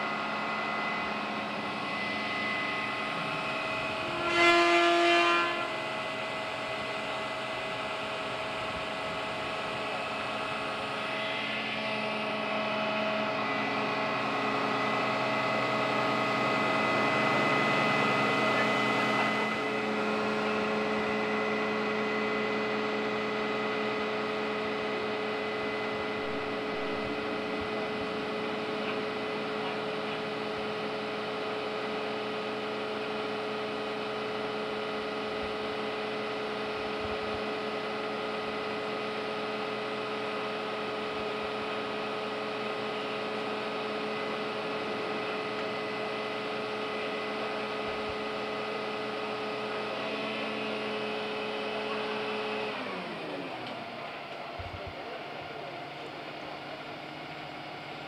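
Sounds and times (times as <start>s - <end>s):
truck engine and hydraulics hum: 0.0s - 58.0s.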